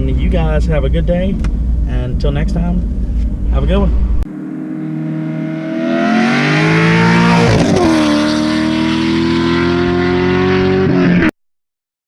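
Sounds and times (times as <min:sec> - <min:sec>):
car engine accelerating: 0:00.1 - 0:11.3.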